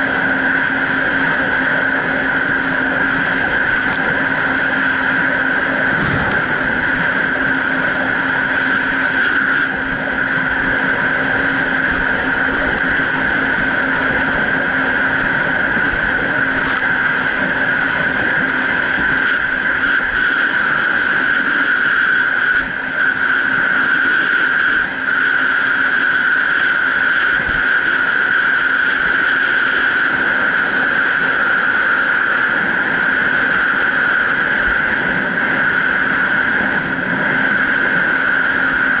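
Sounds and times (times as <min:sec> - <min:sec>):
jet ski engine droning: 0:00.0 - 0:39.0.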